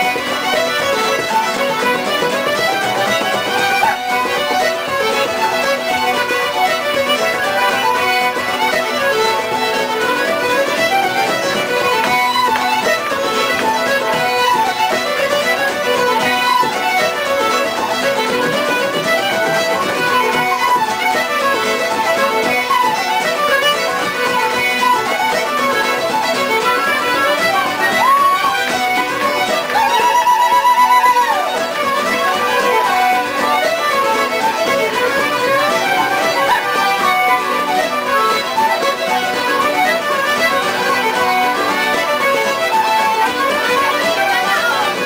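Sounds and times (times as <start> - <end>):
fiddle playing dance tune: 0.0 - 45.0
flute playing dance tune: 0.0 - 45.0.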